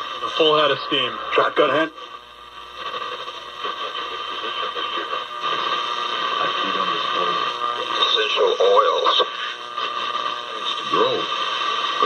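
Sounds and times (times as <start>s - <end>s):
radio static hissing: 0.0s - 12.0s
faint broadcast voice: 0.2s - 2.1s, 2.9s - 12.0s.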